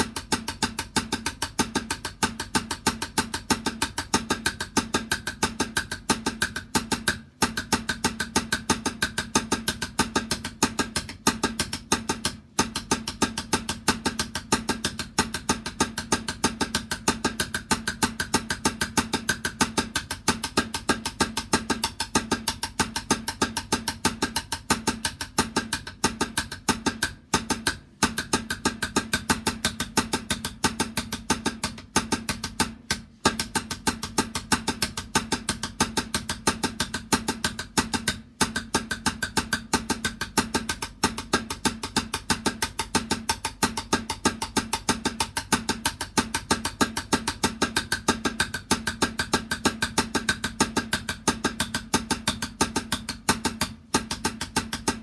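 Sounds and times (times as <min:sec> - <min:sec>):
fast drum strokes: 0:00.0 - 0:55.0.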